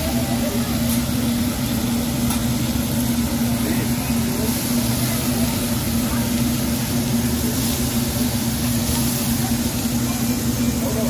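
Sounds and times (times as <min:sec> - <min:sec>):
meat and vegetables sizzling on griddle: 0:00.0 - 0:11.0
ventilation hood hum: 0:00.0 - 0:11.0
spatula on griddle: 0:00.6 - 0:11.0.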